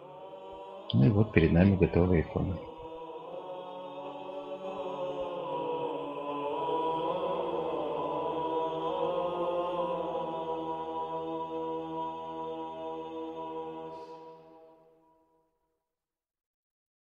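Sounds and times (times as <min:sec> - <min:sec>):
slow chant-like background music: 0:00.0 - 0:15.6.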